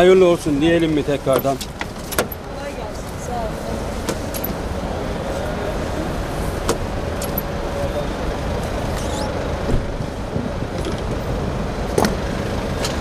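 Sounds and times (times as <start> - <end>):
road traffic rumble: 0.0 - 13.0
vehicle idling: 0.0 - 13.0.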